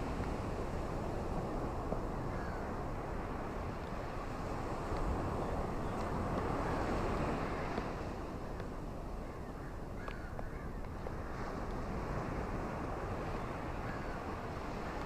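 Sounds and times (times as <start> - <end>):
ocean surf washing onto shore: 0.0 - 9.2, 10.9 - 15.0.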